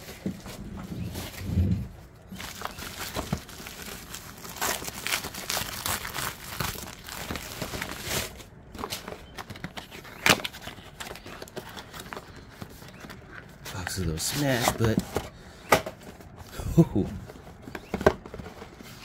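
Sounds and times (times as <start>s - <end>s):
packaging crinkling and rustling: 0.0s - 15.4s.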